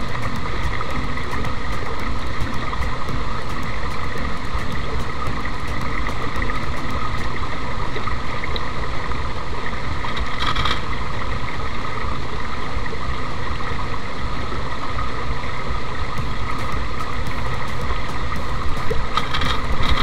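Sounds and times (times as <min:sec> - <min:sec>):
stream rushing over rocks: 0:00.0 - 0:12.2, 0:14.2 - 0:20.0.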